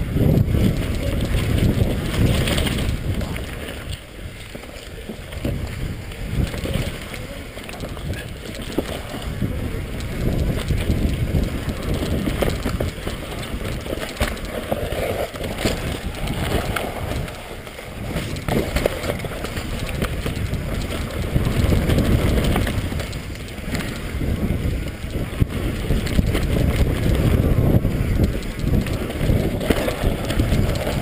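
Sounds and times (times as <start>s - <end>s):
bike rattling: 0.0s - 31.0s
bike tyres rumbling on dirt: 0.0s - 31.0s
wind on microphone: 0.0s - 31.0s.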